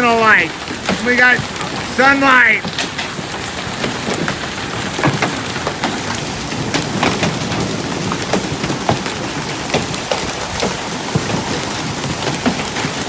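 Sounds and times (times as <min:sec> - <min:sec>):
hailstones knocking on hard surfaces: 0:00.0 - 0:13.0
hiss of falling hail and rain: 0:00.0 - 0:13.0.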